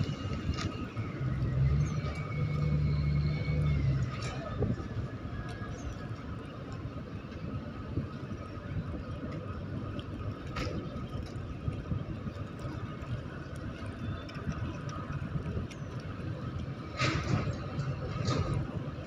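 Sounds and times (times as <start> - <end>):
ship engine rumble: 0.0 - 19.0.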